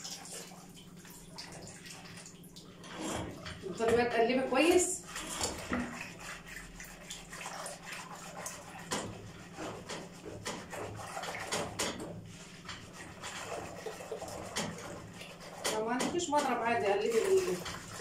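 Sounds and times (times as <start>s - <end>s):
milk sloshing: 0.0s - 18.0s.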